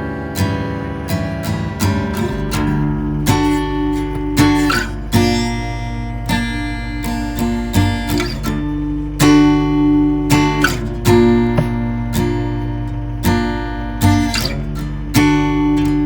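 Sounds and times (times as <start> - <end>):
guitar chords strummed: 0.0 - 16.0.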